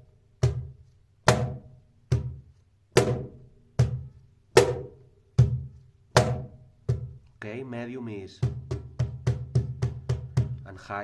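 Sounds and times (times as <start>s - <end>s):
cajon struck by hand: 0.4s - 7.2s, 8.4s - 10.7s.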